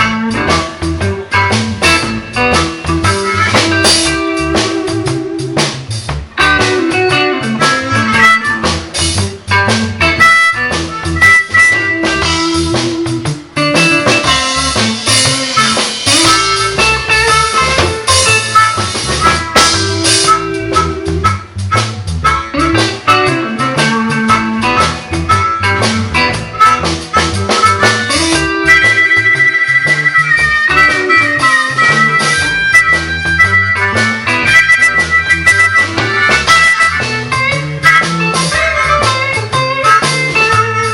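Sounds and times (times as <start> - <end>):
harmonica: 0.0 - 5.6, 6.4 - 40.9
drum kit: 0.0 - 40.9
electric guitar: 0.0 - 40.9.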